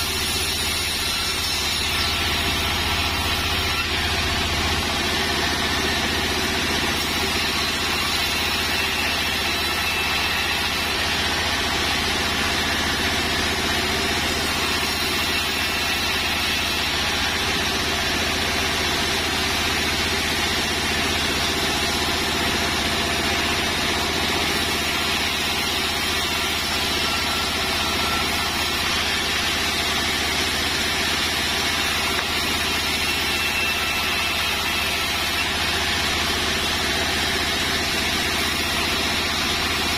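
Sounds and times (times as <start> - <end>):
band saw cutting timber: 0.0 - 39.9.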